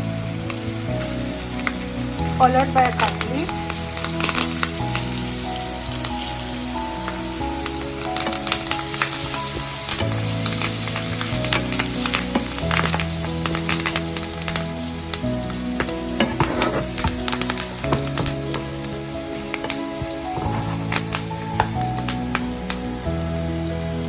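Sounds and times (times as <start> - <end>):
onions frying in oil: 0.0 - 24.0.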